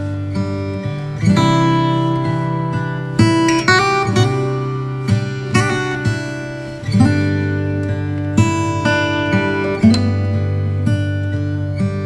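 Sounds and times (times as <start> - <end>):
plucked string music: 0.0 - 12.0.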